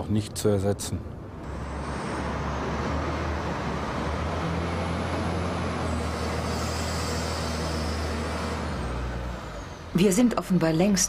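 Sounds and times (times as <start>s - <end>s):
diesel engine running: 1.4s - 11.0s
machinery noise: 1.4s - 11.0s.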